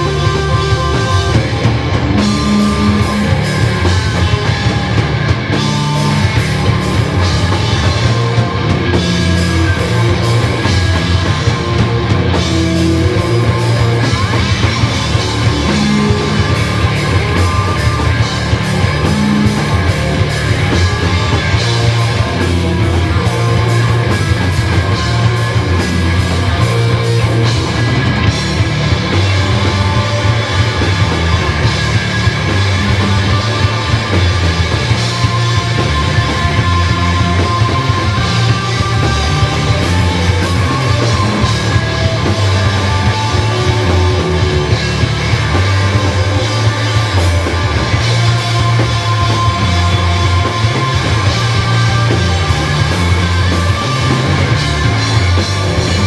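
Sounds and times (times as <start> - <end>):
distorted electric guitars: 0.0 - 56.0
pounding drum kit: 0.0 - 56.0.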